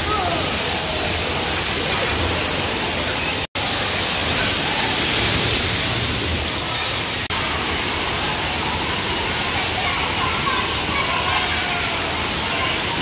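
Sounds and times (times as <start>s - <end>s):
water running down slides: 0.0s - 13.0s.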